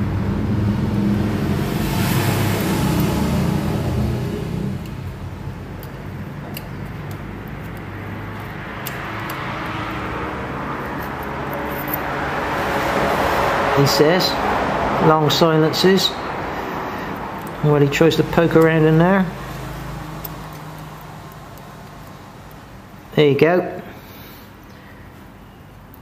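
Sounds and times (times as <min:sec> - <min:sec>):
engine rumbling: 0:00.0 - 0:23.2.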